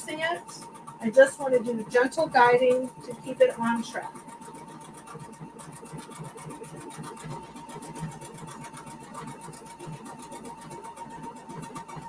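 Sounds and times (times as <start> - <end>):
sewing machine motor whine: 0.0 - 12.0
sewing machine needle strokes: 0.0 - 12.0.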